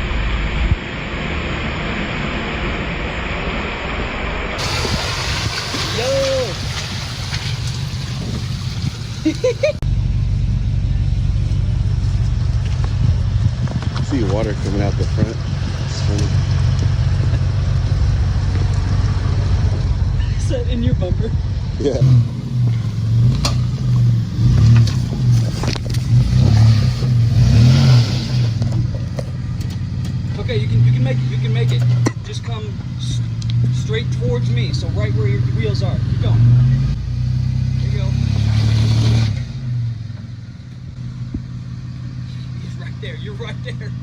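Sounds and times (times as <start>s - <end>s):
off-road engine rumbling: 0.0s - 44.0s.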